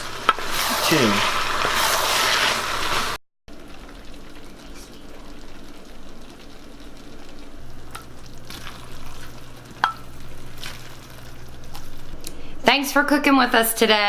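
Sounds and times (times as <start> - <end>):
fried rice sizzling in a wok: 0.0 - 12.6.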